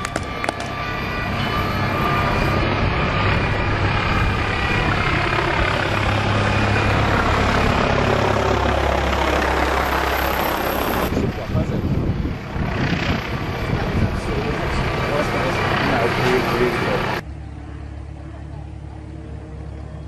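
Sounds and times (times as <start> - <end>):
loud aircraft engine noise: 0.0 - 20.0
low hum: 0.0 - 20.0.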